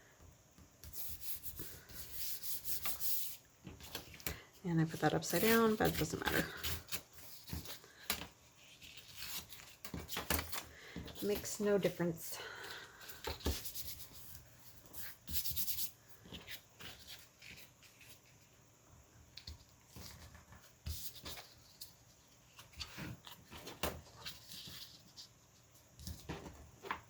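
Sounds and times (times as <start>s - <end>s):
paper rustling and rubbing: 0.9s - 12.0s, 13.0s - 18.6s, 19.4s - 27.0s.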